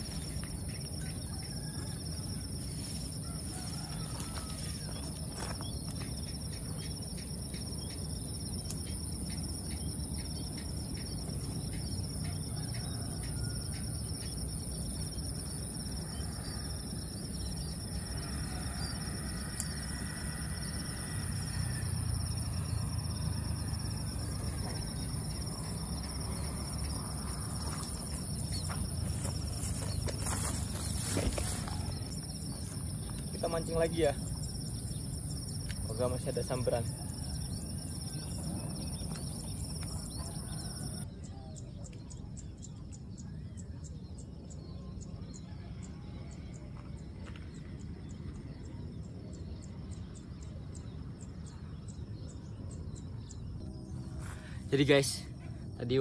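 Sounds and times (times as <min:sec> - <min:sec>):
insects trilling: 0:00.0 - 0:56.0
low outdoor rumble: 0:00.0 - 0:56.0.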